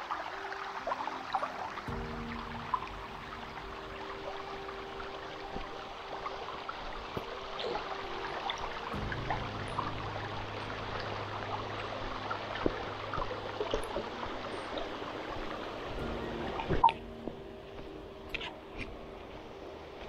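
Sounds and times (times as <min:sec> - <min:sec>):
water trickling in stone channel: 0:00.0 - 0:20.0.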